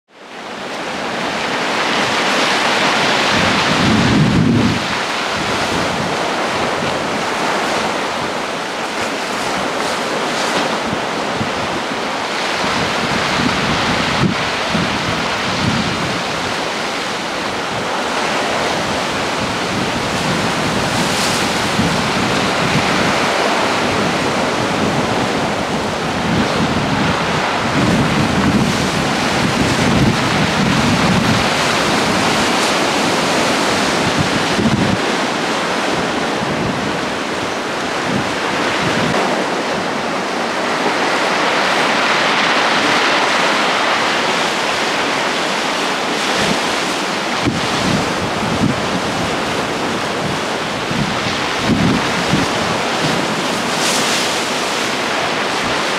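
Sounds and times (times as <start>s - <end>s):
sea surf on rocky shore: 0.1s - 55.9s
wind buffeting microphone: 0.5s - 55.9s.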